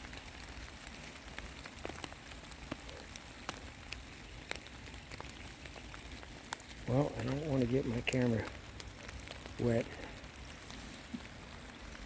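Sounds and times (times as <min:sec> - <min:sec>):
raindrops tapping: 0:00.0 - 0:12.0
steady rain: 0:00.0 - 0:12.0.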